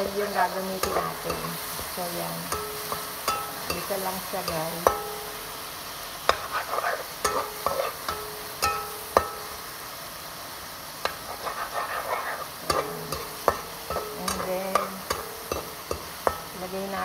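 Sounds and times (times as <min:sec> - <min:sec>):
tomatoes sizzling in oil: 0:00.0 - 0:17.0
metal spatula scraping a wok: 0:00.4 - 0:05.5, 0:06.3 - 0:09.7, 0:11.0 - 0:17.0.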